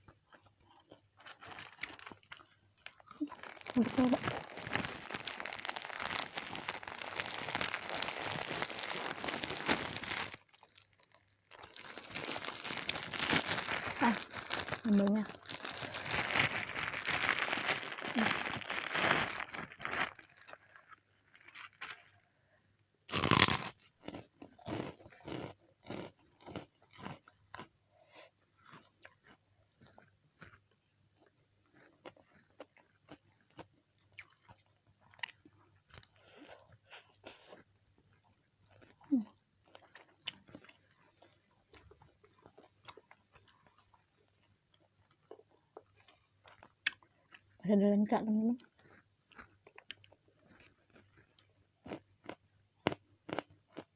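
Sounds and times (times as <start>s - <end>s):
crunchy eating and chewing: 0.0s - 22.4s, 23.1s - 47.6s, 48.6s - 53.9s.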